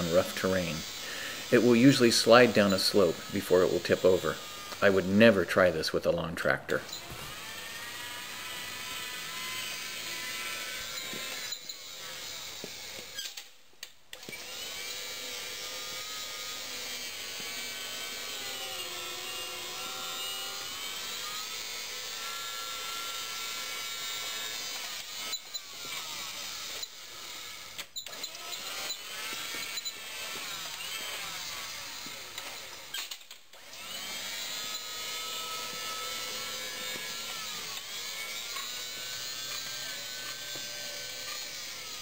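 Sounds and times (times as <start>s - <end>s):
electric motor whining: 0.0s - 5.7s, 6.8s - 13.5s, 14.2s - 42.0s.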